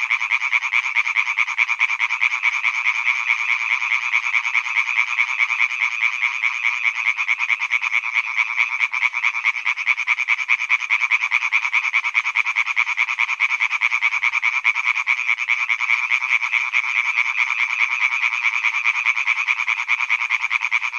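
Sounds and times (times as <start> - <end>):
chorus of frogs calling: 0.0 - 20.9.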